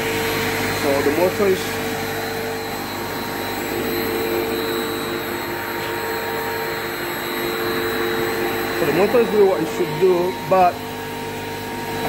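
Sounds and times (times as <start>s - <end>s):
electric motor whirring: 0.0s - 12.0s.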